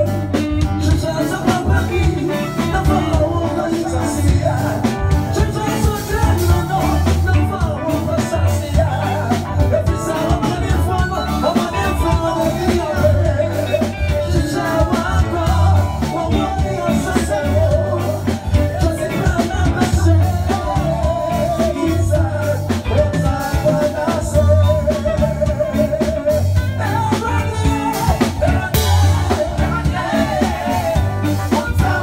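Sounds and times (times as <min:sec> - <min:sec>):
drum kit: 0:00.0 - 0:32.0
electric guitar: 0:00.0 - 0:32.0
keyboard: 0:00.0 - 0:32.0
man singing into a microphone: 0:00.0 - 0:32.0.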